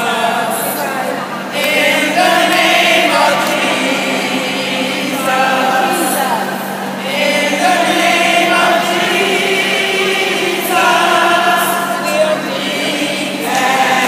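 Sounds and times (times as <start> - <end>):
group singing a hymn: 0.0 - 14.0
steady low hum: 0.0 - 14.0.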